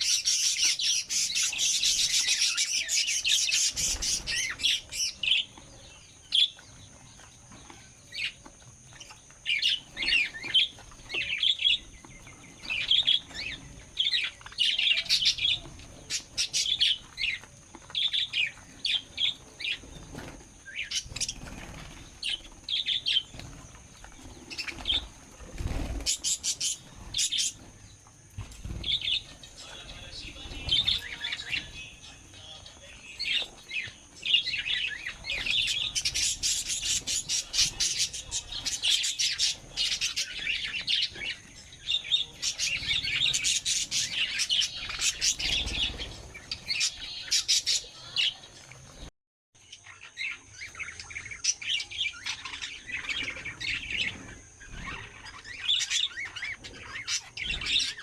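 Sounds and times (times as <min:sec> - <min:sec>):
parrots chirping and chattering: 0:00.0 - 0:58.0.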